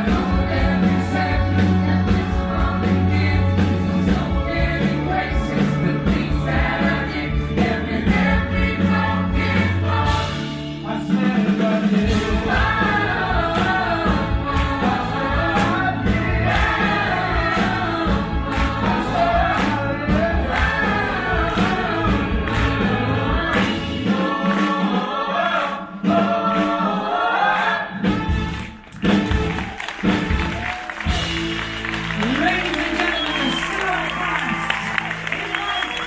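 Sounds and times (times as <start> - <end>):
group singing musical number: 0.0 - 31.4
musical backing with beat: 0.0 - 36.0.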